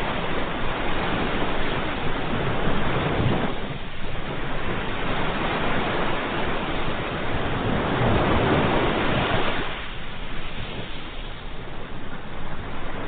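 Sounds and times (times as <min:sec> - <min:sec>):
ocean surf washing in: 0:00.0 - 0:13.0.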